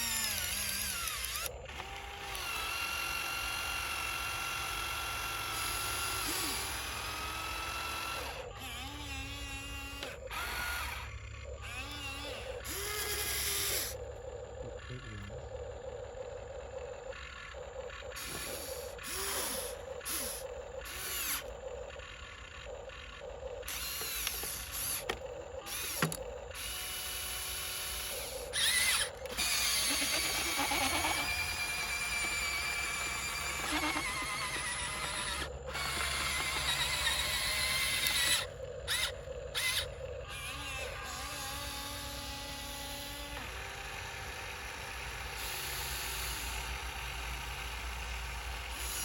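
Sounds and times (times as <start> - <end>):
electric motors whining and ratcheting: 0.0 - 15.4, 16.0 - 49.0.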